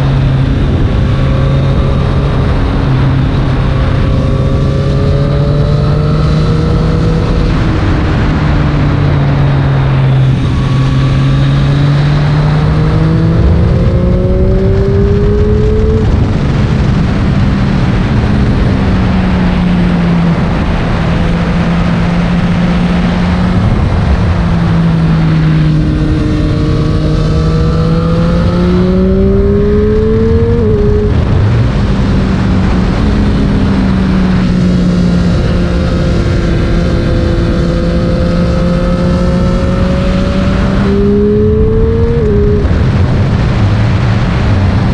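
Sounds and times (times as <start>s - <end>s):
motorcycle engine: 0.0s - 44.9s
wind and road noise: 0.0s - 44.9s.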